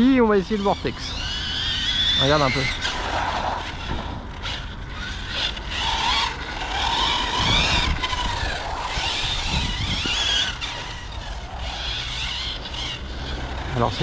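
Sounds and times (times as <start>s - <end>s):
rc car motor whine: 0.0s - 14.0s.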